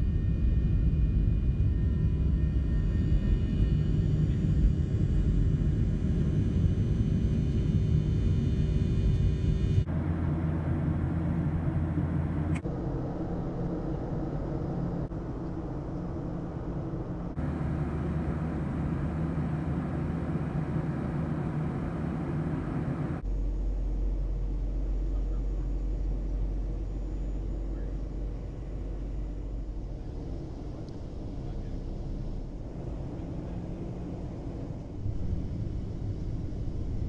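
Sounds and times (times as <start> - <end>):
jet engines and cabin noise: 0.0 - 37.0.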